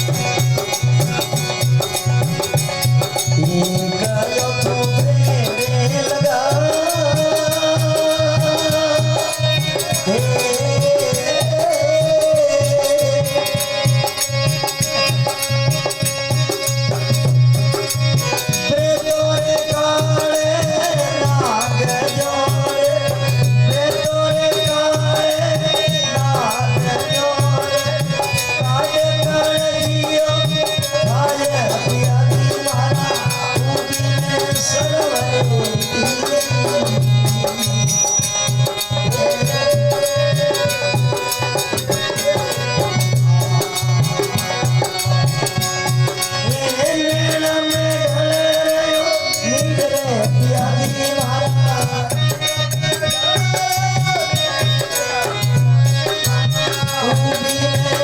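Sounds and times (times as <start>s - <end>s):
fast drum and rattle percussion: 0.0s - 58.0s
ornamented melody line: 0.0s - 58.0s.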